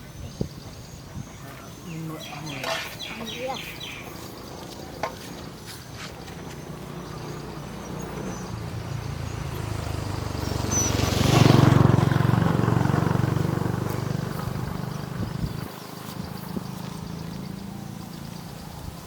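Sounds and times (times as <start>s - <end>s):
motor vehicle passing by: 0.8s - 19.0s.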